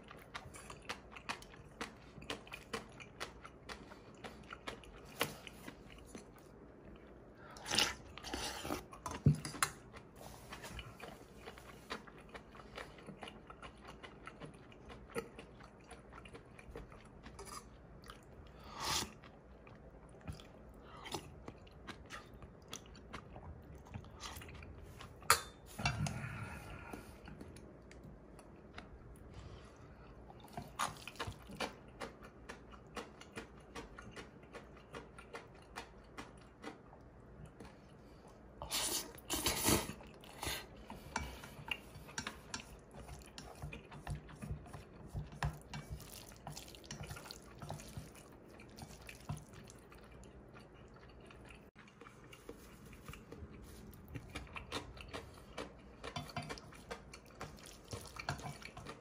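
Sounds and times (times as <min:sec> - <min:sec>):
chewing: 0:00.0 - 0:59.0.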